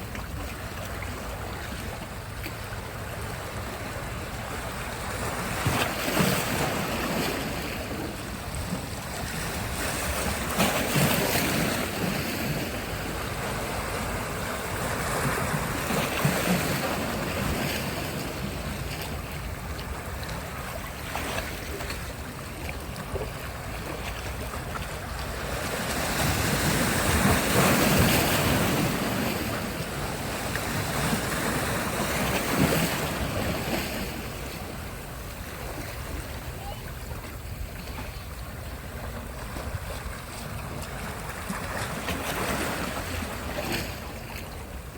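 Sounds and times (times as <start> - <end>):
waves breaking on beach: 0.0 - 44.9.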